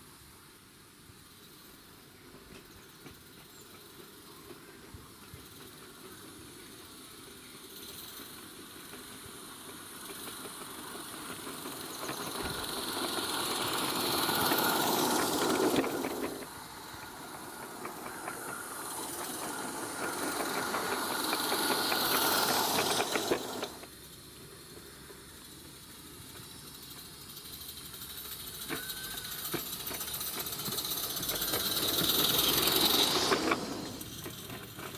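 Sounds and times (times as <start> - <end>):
rapid steam exhaust beats: 0.0 - 34.9
steam hiss: 0.0 - 34.9.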